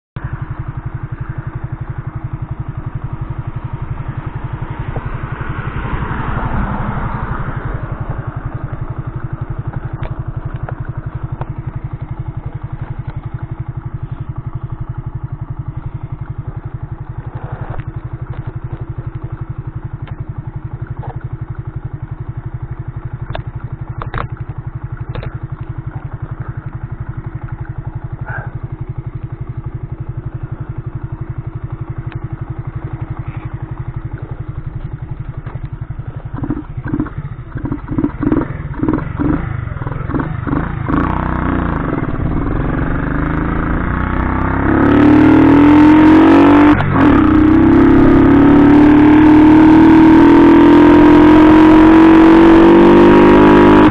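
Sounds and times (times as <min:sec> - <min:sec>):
moped engine idling: 0:00.2 - 0:49.2.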